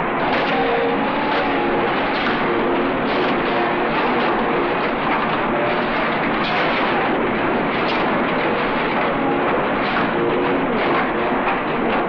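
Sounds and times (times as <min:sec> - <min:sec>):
assembly line machinery clatter: 0:00.0 - 0:12.0.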